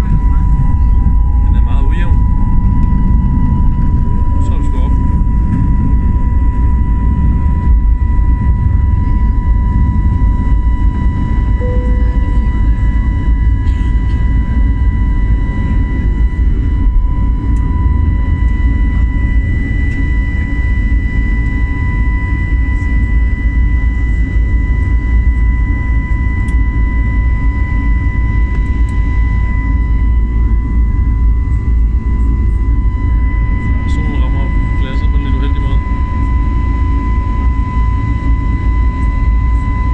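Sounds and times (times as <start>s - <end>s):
airliner engine rumble: 0.0s - 39.9s
engine high whine: 0.0s - 39.9s.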